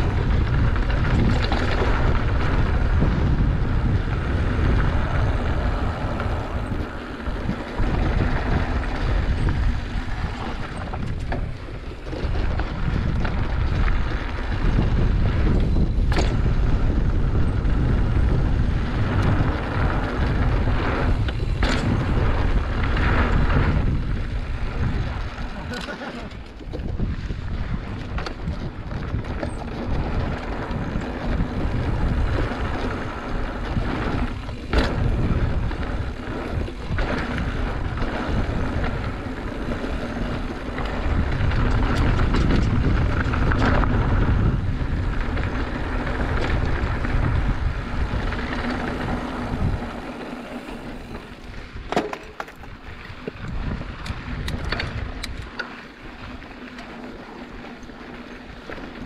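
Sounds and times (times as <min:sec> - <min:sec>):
bike rattling on loose stones: 0:00.0 - 0:59.0
wind buffeting microphone: 0:00.0 - 0:59.0.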